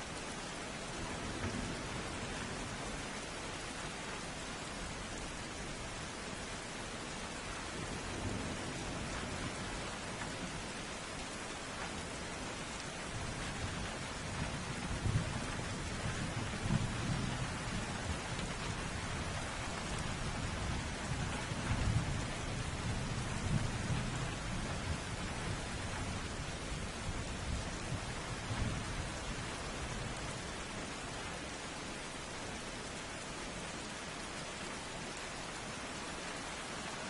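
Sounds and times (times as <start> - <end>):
heavy rain hissing: 0.0 - 37.0.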